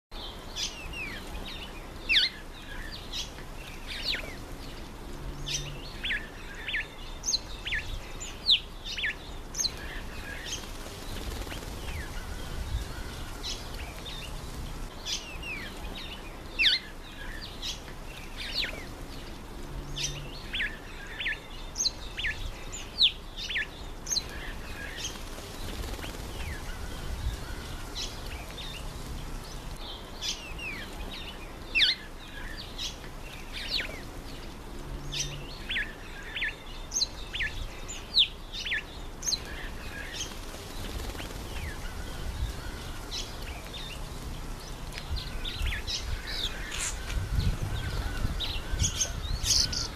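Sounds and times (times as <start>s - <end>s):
birds chirping: 0.1s - 49.9s.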